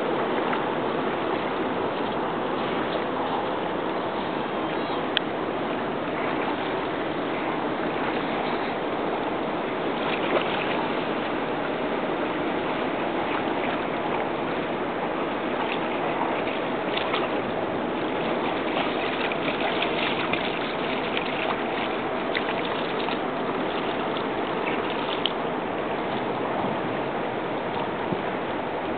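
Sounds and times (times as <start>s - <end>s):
dog wading through water: 0.0s - 28.9s
water lapping at shore: 0.0s - 28.9s.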